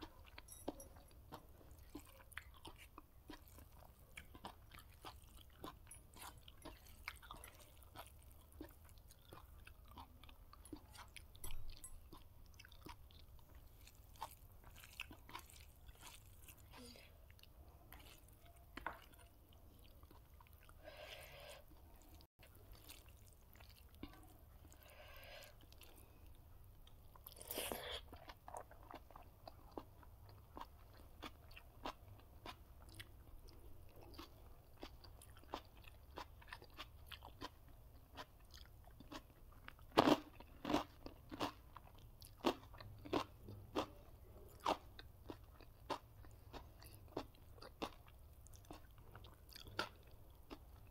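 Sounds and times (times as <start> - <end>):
person chewing and crunching food: 0.0 - 50.9.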